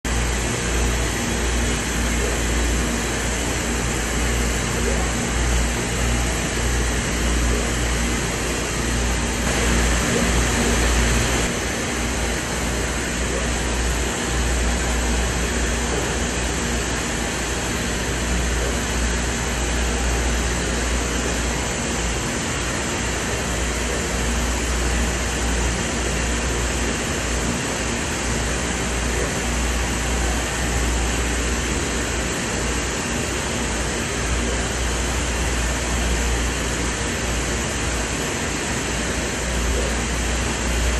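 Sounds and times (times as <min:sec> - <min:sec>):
low hum: 0:00.1 - 0:40.9
printer fans and motors whirring: 0:00.1 - 0:40.9.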